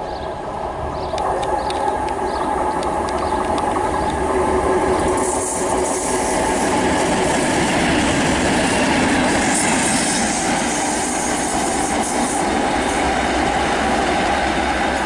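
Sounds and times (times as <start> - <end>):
diesel locomotive engines: 0.0 - 15.0
wheels on rail: 0.0 - 15.0.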